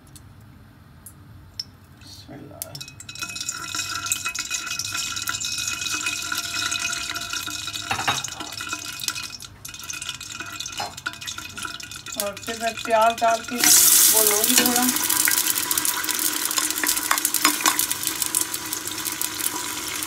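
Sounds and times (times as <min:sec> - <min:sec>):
steady hiss with faint hum: 0:00.0 - 0:20.0
oil pouring into a metal pot: 0:03.0 - 0:20.0.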